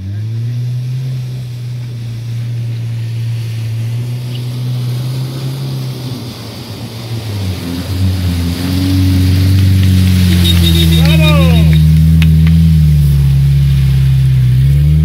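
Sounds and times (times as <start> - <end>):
bow wave rushing water: 0.0 - 15.0
van engine revving: 0.0 - 15.0.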